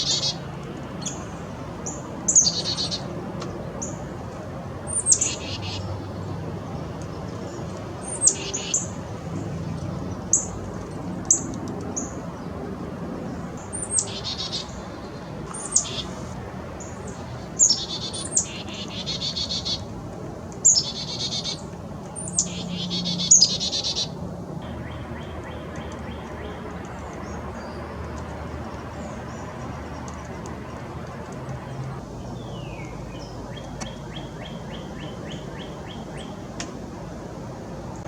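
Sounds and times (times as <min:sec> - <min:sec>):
songbirds singing: 0:00.0 - 0:38.0.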